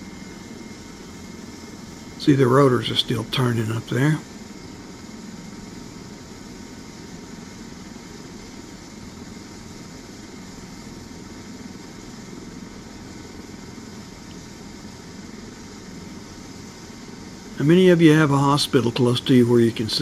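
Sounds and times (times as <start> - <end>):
helicopter engines idling: 0.0 - 20.0.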